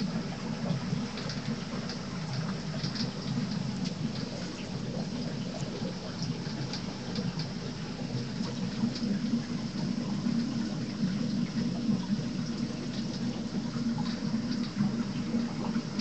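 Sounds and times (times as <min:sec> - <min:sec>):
aquarium water trickling: 0:00.0 - 0:16.0
small drip-like ticks: 0:00.0 - 0:16.0.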